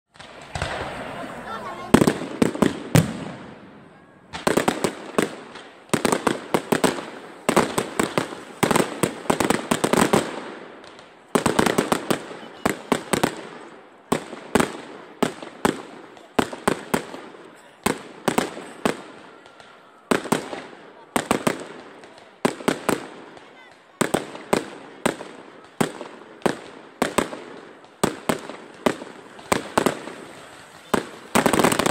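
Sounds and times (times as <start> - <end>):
fireworks bangs and crackles: 0.1 - 31.9.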